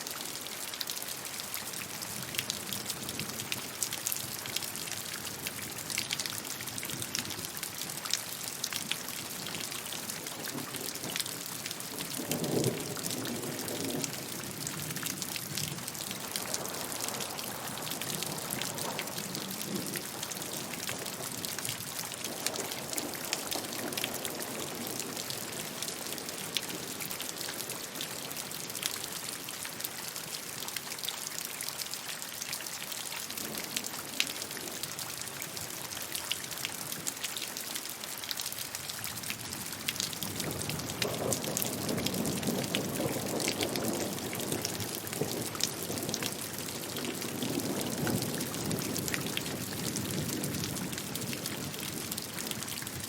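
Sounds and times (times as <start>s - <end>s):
rain pattering: 0.0s - 53.0s.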